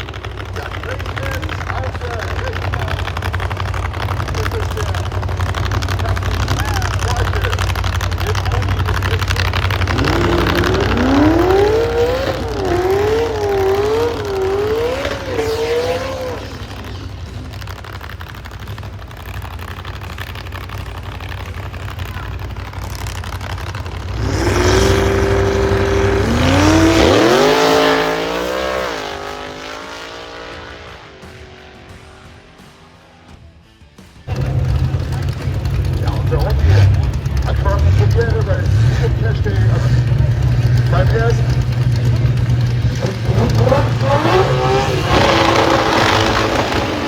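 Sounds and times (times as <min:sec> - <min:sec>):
racing engine revving and launching: 0:00.0 - 0:19.0, 0:23.0 - 0:33.4, 0:34.3 - 0:47.0
drag racing car accelerating: 0:00.0 - 0:47.0
low engine rumble: 0:00.0 - 0:47.0.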